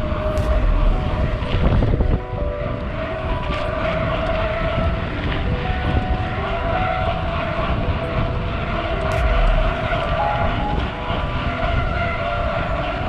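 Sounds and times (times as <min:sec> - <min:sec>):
bike tyres humming on asphalt: 0:00.0 - 0:13.0
wind rushing over microphone: 0:00.0 - 0:13.0.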